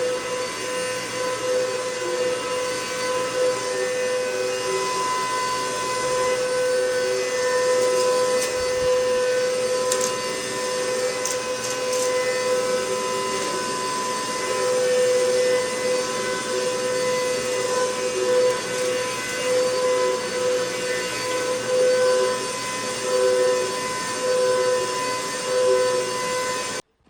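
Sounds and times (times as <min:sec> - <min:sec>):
vacuum cleaner whine: 0:00.0 - 0:26.9.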